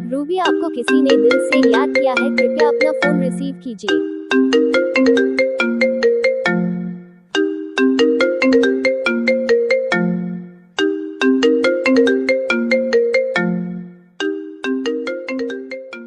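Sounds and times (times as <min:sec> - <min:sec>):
mobile phone ringtone melody: 0:00.0 - 0:16.0.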